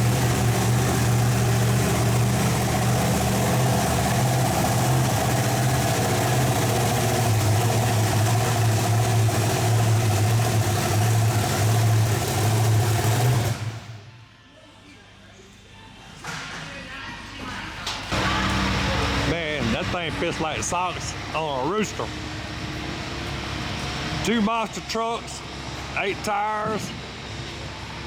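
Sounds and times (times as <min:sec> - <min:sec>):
large vehicle engine running: 0:00.0 - 0:14.2, 0:18.0 - 0:28.0.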